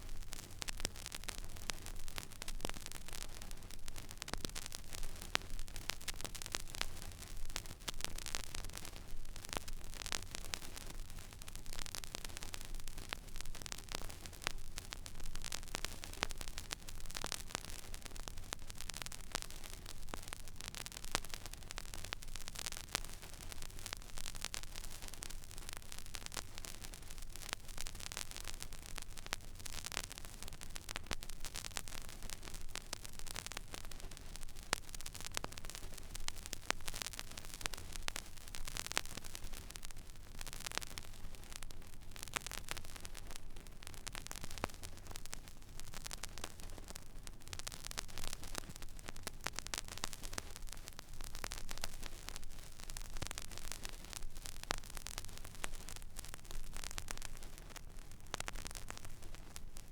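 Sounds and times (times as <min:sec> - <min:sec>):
vinyl surface hiss and crackle: 0:00.0 - 0:59.9.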